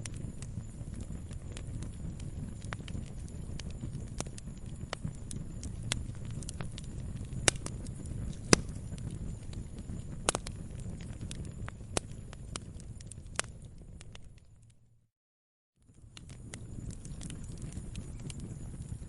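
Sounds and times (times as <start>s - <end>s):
logs crackling and popping: 0.0s - 14.8s, 15.9s - 19.0s
low rumble of flames: 0.0s - 15.0s, 15.8s - 19.0s.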